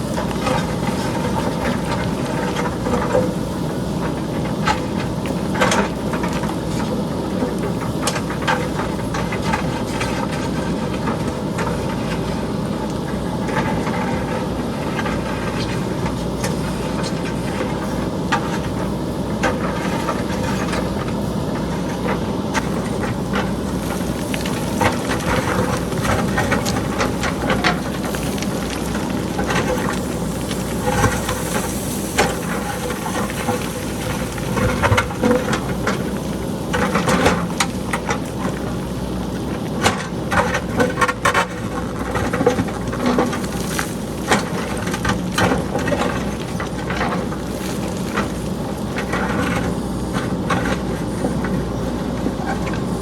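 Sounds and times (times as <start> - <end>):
diesel engine running: 0.0 - 53.0
rocks clattering down hillside: 0.0 - 53.0.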